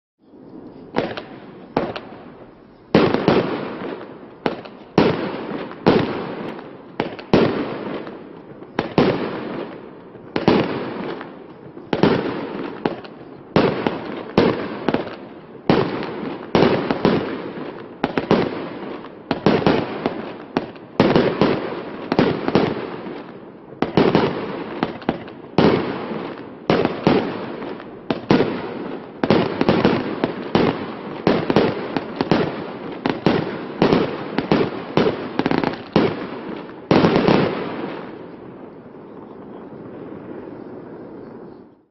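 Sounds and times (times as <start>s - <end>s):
firework shots banging: 0.9s - 2.2s, 2.9s - 38.2s.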